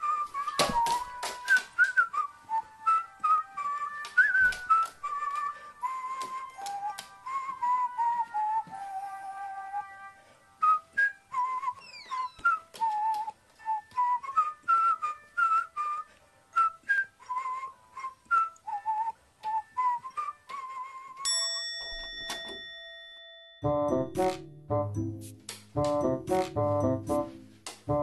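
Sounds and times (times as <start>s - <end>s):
whistled melody: 0.0s - 21.6s, 23.6s - 28.0s.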